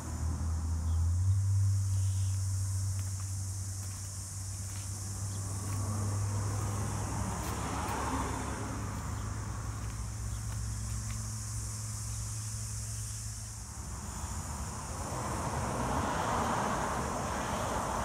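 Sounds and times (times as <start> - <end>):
distant vehicle engine hum: 0.0 - 18.0
insect buzz: 0.0 - 18.0.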